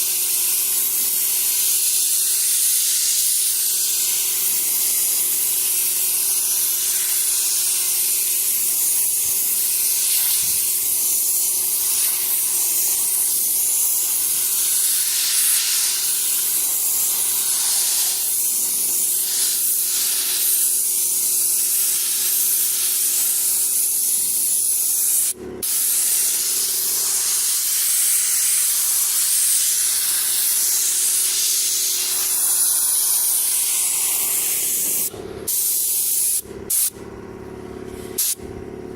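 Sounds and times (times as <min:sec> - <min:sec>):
paint spray gun hissing: 0:00.0 - 0:37.0, 0:38.0 - 0:38.4.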